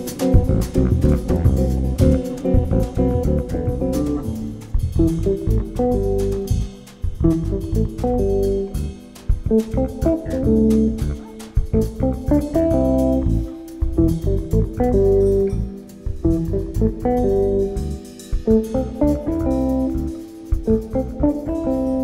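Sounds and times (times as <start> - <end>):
bass line: 0.0 - 22.0
plucked guitar: 0.0 - 22.0.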